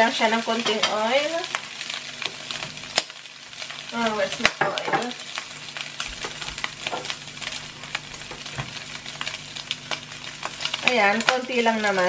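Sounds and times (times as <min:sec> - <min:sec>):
pork sizzling in a frying pan: 0:00.0 - 0:12.0.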